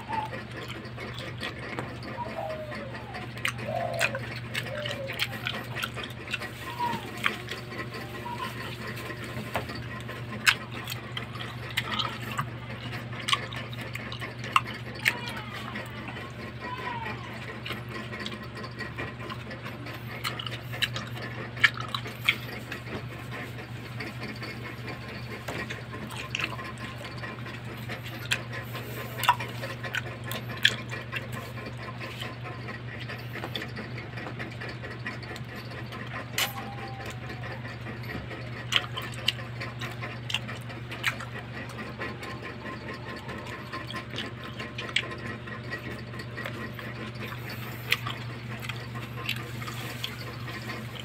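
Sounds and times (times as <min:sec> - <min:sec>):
grapes being chewed: 0:00.0 - 0:51.0.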